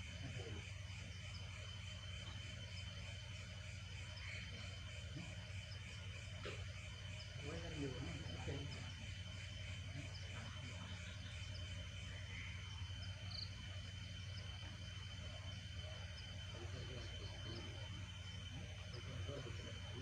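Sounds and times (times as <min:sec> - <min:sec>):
night insects chirping: 0:00.0 - 0:20.0.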